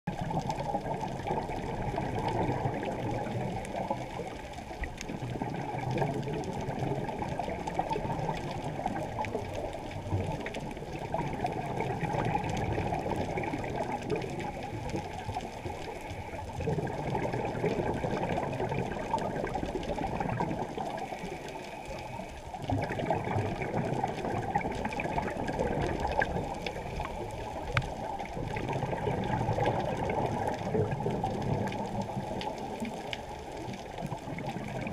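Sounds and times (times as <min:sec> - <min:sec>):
muffled underwater bubbles gurgling: 0:00.1 - 0:34.9.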